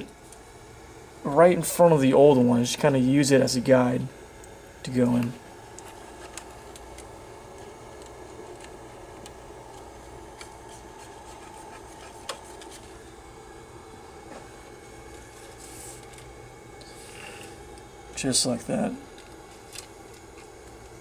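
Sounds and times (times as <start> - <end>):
printer humming: 0.0 - 21.0.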